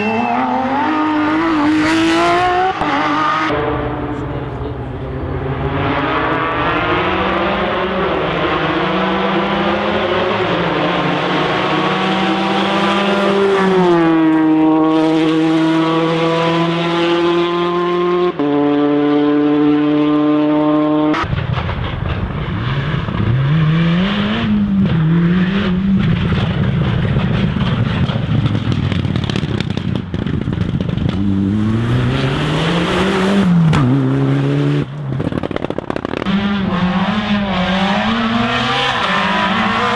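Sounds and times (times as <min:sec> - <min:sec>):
rally car engine revving: 0:00.0 - 0:21.3, 0:22.0 - 0:39.9.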